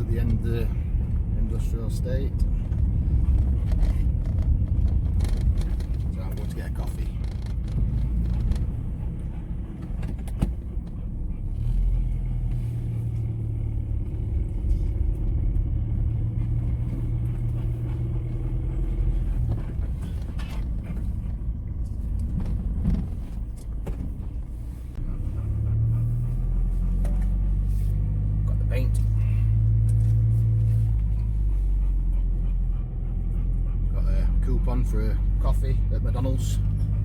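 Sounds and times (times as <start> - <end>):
car engine drone: 0.0 - 37.0
road rumble inside car: 0.0 - 37.0.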